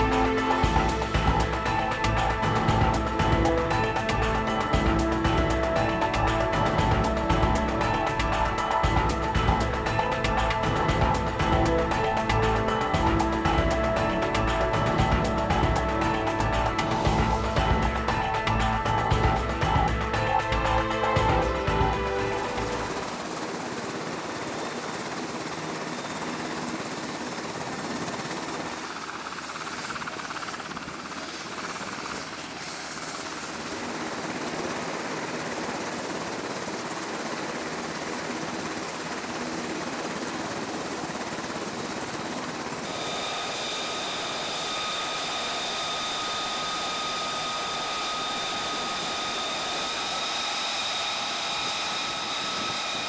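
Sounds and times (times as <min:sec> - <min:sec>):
high turbine whine: 0:00.0 - 0:53.0.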